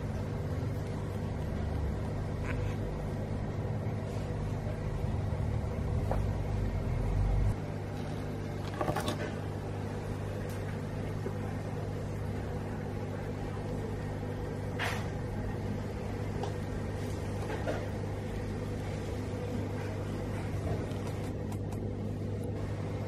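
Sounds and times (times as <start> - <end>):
aquarium pump hum: 0.0 - 23.0.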